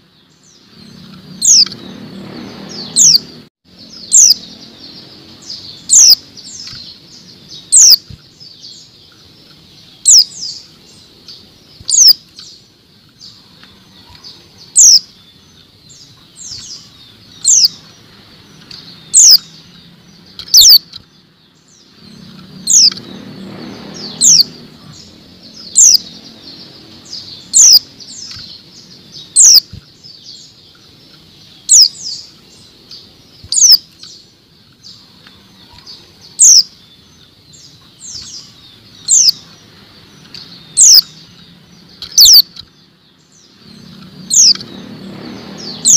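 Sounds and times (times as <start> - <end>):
bird sharp high chirps: 0.0 - 45.9.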